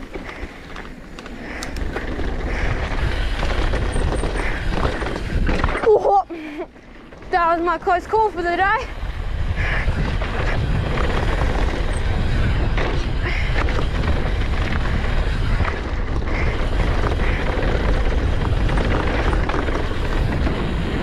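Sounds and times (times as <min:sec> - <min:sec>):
tyre noise on dirt: 0:00.0 - 0:06.3, 0:06.9 - 0:21.0
bike clattering over bumps: 0:00.0 - 0:21.0
wind buffeting microphone: 0:00.0 - 0:21.0.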